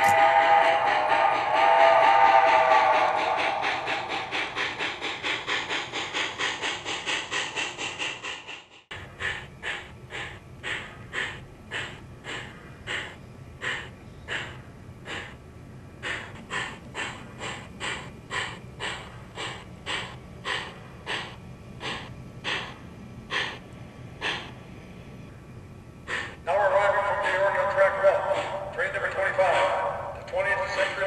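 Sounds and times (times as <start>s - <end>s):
steam locomotive chuffing effect: 0.0s - 31.0s.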